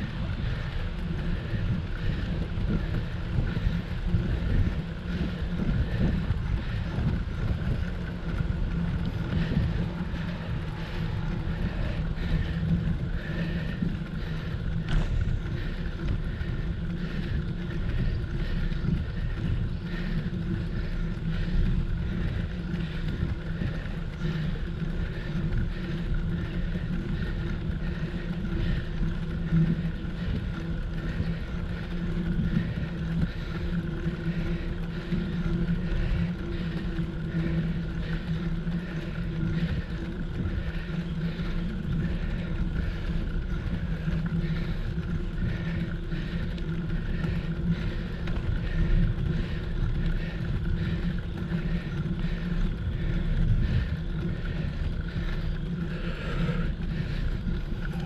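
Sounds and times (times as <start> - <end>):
bicycle tyre and road noise: 0.0 - 58.0
steady low hum: 0.0 - 58.0
wind noise on microphone: 0.0 - 58.0.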